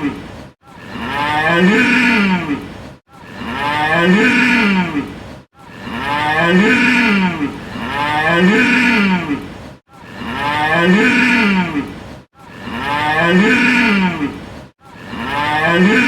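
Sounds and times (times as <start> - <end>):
cow mooing: 0.8 - 2.6, 3.2 - 9.5, 10.1 - 11.9, 12.5 - 16.0.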